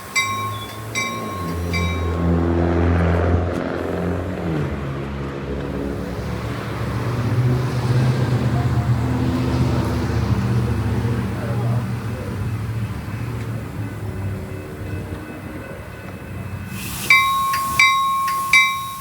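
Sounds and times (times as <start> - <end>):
locomotive bell ringing: 0.0 - 3.0, 5.7 - 19.0
diesel locomotive engine revving: 0.0 - 19.0.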